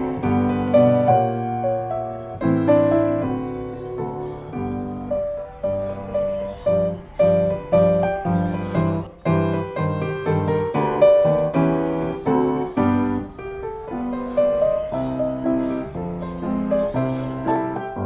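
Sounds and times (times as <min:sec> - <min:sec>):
ragtime piano music: 0:00.0 - 0:18.0.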